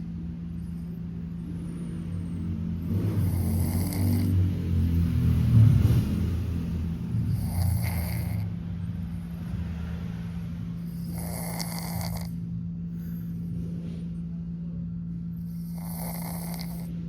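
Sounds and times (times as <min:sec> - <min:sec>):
cat snoring: 0:00.0 - 0:13.2, 0:15.3 - 0:17.0
steady low hum: 0:00.0 - 0:17.0.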